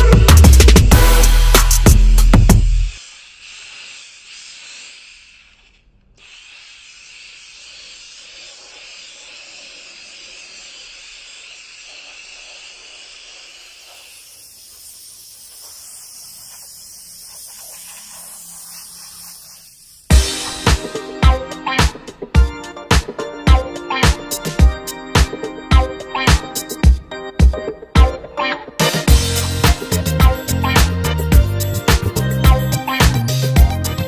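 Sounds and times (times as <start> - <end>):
steam cleaner jet hissing: 0.9 - 23.2, 28.8 - 33.9.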